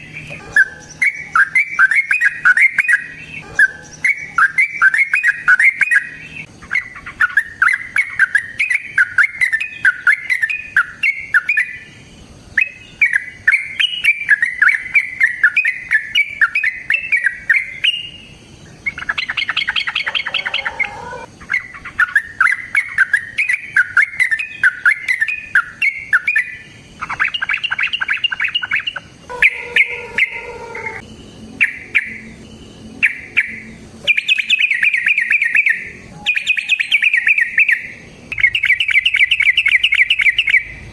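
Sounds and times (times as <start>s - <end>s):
bird singing rapid chirps: 0.0s - 40.9s.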